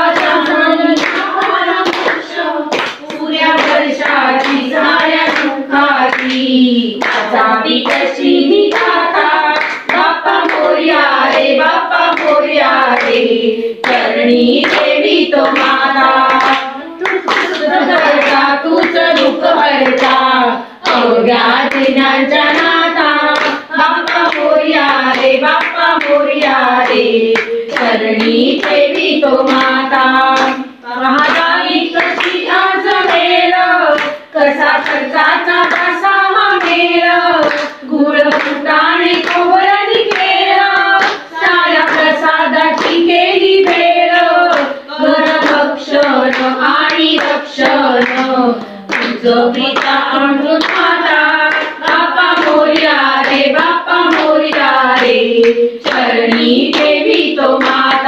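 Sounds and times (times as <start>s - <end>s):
rhythmic hand-clapping: 0.0s - 58.0s
women singing devotional song: 0.0s - 58.0s.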